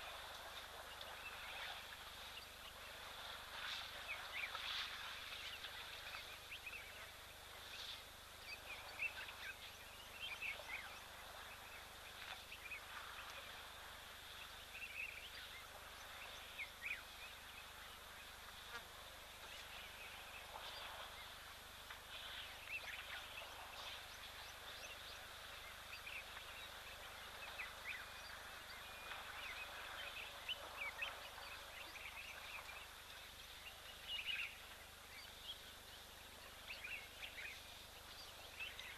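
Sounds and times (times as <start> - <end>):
high hiss of outdoor ambience: 0.0 - 38.9.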